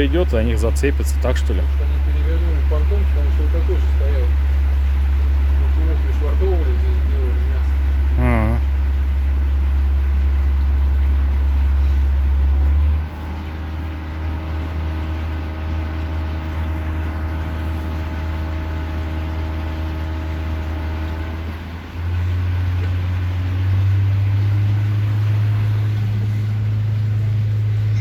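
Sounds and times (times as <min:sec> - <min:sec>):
boat motor rumbling: 0:00.0 - 0:28.0.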